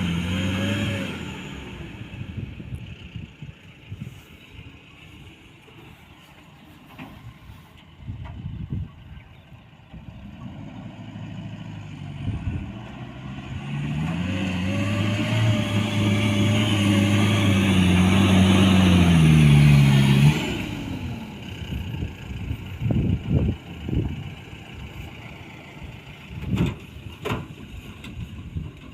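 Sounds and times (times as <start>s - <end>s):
diesel pickup engine revving: 0.0s - 5.4s, 9.9s - 28.9s.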